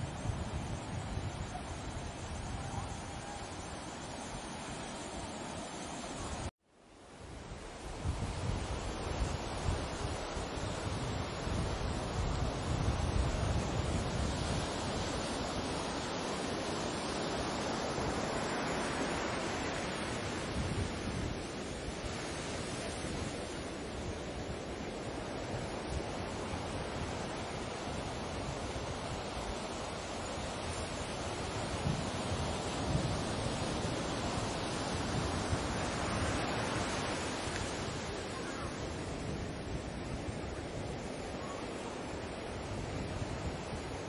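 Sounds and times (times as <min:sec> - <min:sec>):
waves surf hiss: 0:00.0 - 0:44.0
wind: 0:00.0 - 0:44.0.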